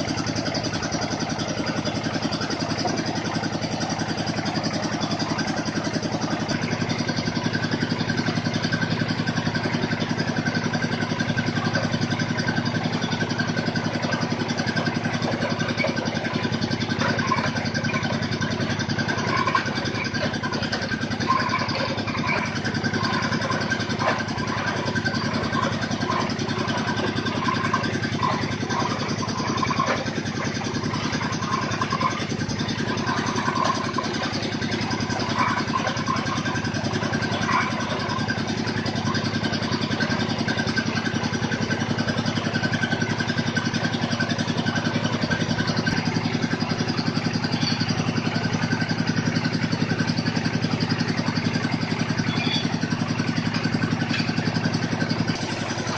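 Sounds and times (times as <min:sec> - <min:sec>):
drilling machine engine pulsing: 0:00.0 - 0:55.9
high-pitched squeaks or clinks: 0:00.1 - 0:55.9.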